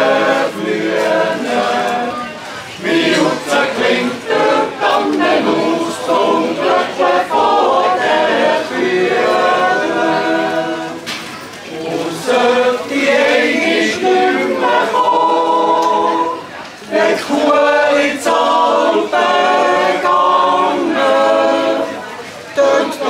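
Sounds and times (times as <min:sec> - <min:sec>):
yodel choir singing a cappella: 0:00.0 - 0:11.1, 0:11.7 - 0:23.0.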